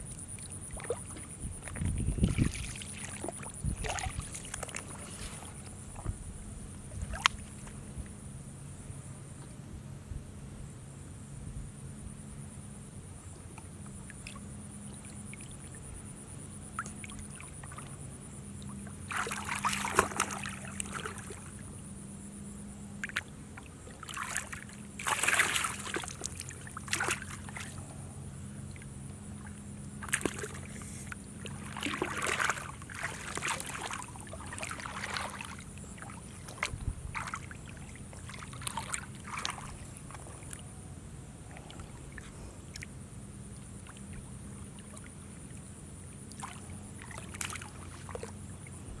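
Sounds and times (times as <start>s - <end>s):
water splashing and sloshing: 0.0s - 8.2s, 13.3s - 49.0s
steady low hum: 0.0s - 49.0s.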